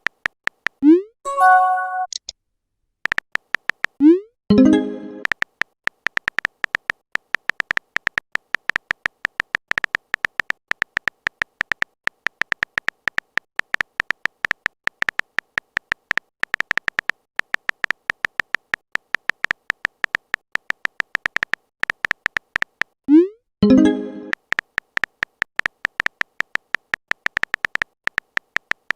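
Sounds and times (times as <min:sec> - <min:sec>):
electronic typing ticks: 0:03.0 - 0:28.9.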